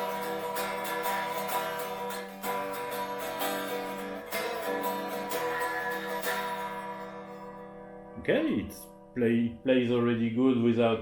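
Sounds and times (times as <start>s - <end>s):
unplugged electric guitar strumming: 0.0s - 10.3s.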